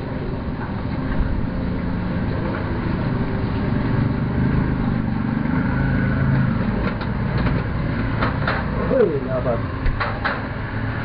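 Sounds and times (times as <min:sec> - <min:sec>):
motor engine droning: 0:00.0 - 0:11.0.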